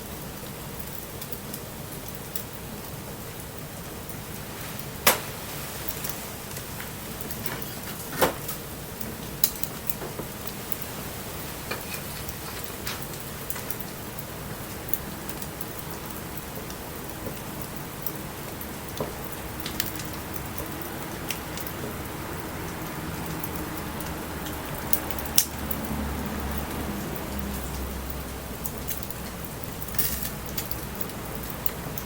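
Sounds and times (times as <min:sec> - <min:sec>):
burning wood popping and crackling: 0:00.0 - 0:32.0
rain falling: 0:00.0 - 0:32.0.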